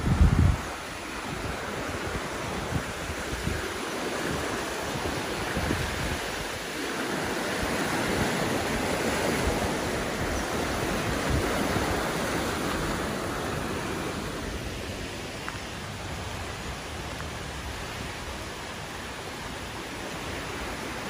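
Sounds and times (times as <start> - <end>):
flooded creek water rushing: 0.0 - 21.0.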